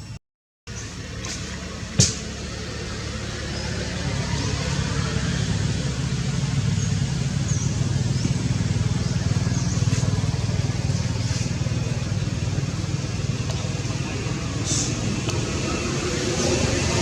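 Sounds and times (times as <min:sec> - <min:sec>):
engine running steadily: 0:00.7 - 0:17.0.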